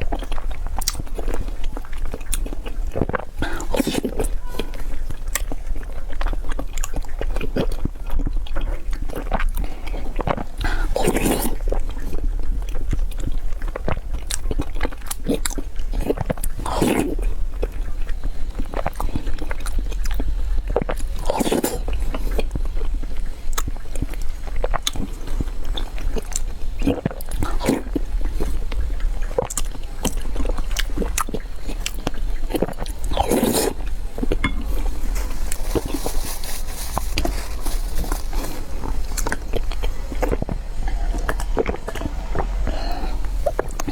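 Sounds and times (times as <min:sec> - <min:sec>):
person biting and chewing: 0:00.0 - 0:43.9
steady low hum: 0:00.0 - 0:43.9.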